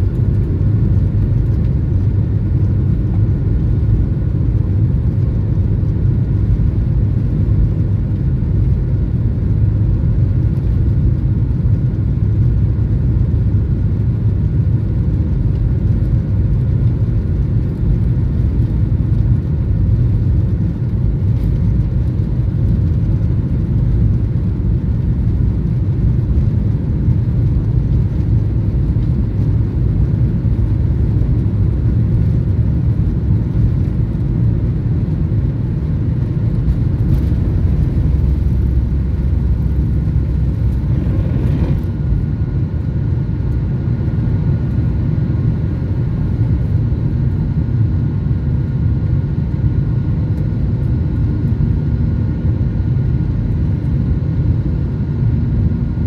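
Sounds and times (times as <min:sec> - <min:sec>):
faint steady whine: 0:00.0 - 0:56.0
jet engines and runway rumble: 0:00.0 - 0:56.0.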